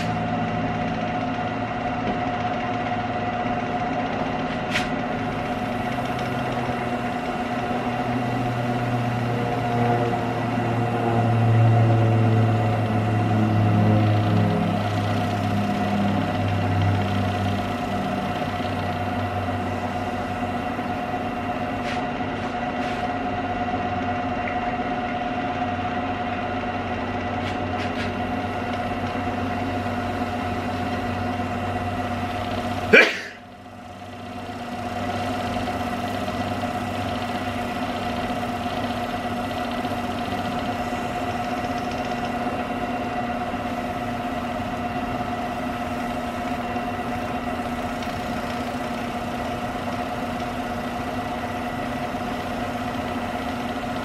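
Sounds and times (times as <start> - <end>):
wood lathe motor whine: 0.0 - 54.0.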